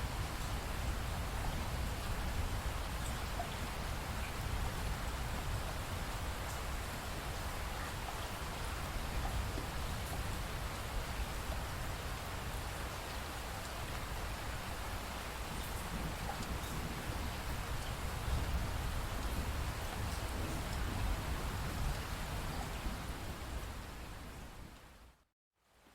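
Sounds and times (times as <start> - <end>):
steady rainfall: 0.0 - 25.9.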